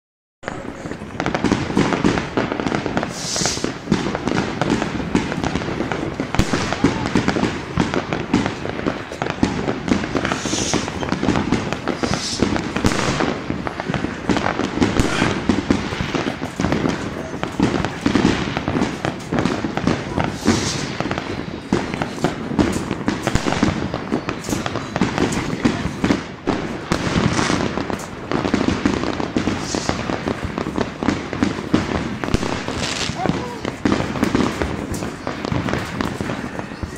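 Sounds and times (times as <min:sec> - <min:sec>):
fireworks crackling and banging: 0:00.4 - 0:36.9
firework high hiss: 0:00.6 - 0:36.9.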